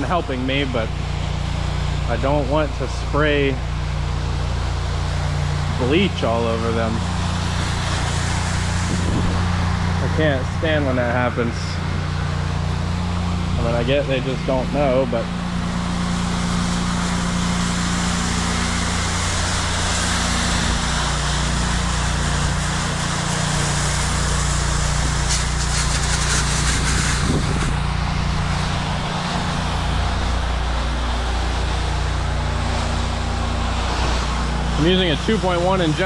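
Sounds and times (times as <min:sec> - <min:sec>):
hissing water spray: 0:00.0 - 0:36.0
pressure washer engine running: 0:00.0 - 0:36.0.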